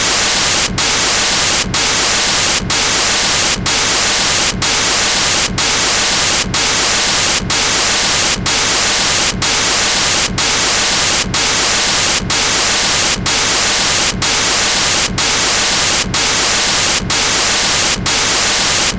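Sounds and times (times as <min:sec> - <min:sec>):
loud static hiss: 0:00.0 - 0:18.9.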